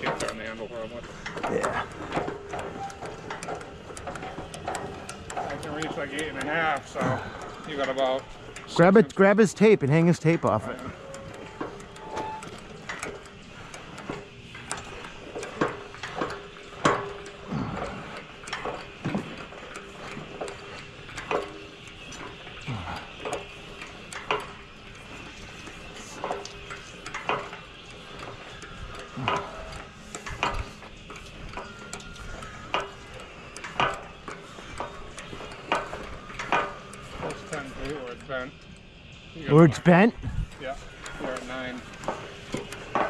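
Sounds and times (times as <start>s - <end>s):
metallic clicks and knocks: 0.0s - 39.2s, 40.2s - 43.0s.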